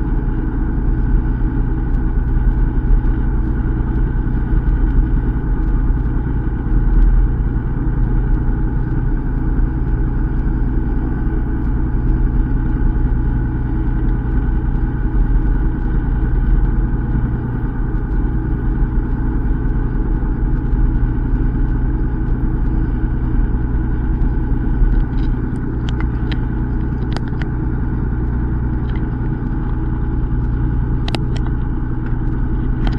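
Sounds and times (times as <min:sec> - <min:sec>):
boat engine humming: 0:00.0 - 0:32.9.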